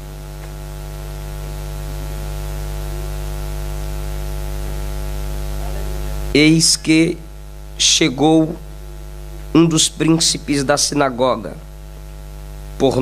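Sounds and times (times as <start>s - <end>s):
constant hiss: 0.0s - 13.0s
electrical mains hum: 0.0s - 13.0s.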